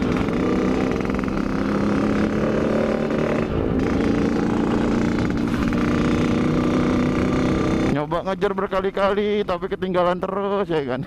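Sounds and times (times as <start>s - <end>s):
two-stroke motorcycle engine running: 0.0s - 9.5s.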